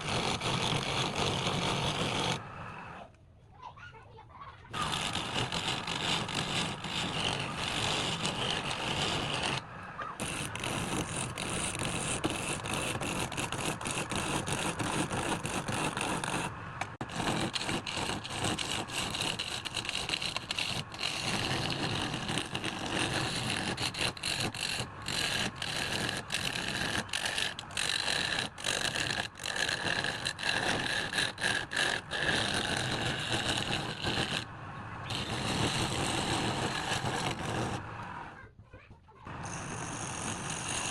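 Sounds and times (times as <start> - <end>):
wood lathe grinding whir: 0.0 - 2.4, 4.7 - 38.3, 39.3 - 40.9.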